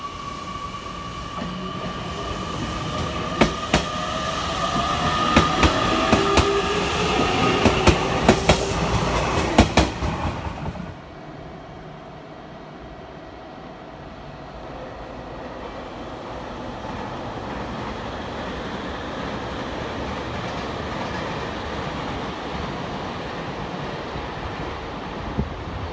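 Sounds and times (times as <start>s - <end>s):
train rolling past: 0.0s - 25.9s.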